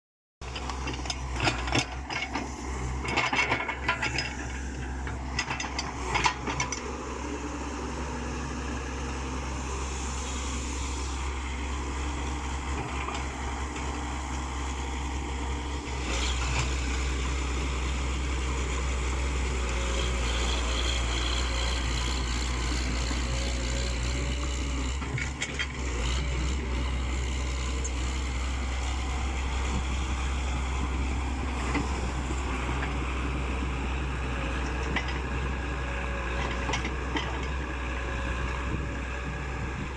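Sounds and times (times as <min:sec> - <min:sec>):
excavator diesel engine running: 0:00.4 - 0:39.9.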